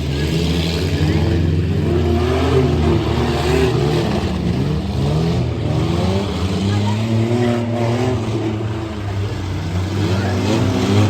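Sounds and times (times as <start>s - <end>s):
truck engines revving: 0.0s - 11.0s.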